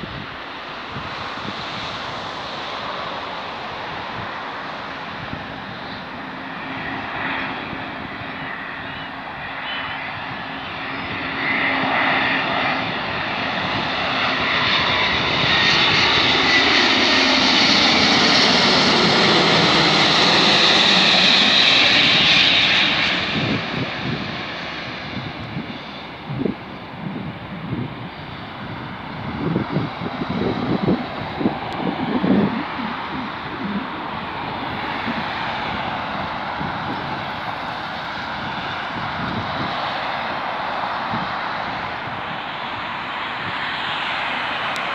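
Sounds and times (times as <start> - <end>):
airliner engines on approach: 0.0 - 44.9.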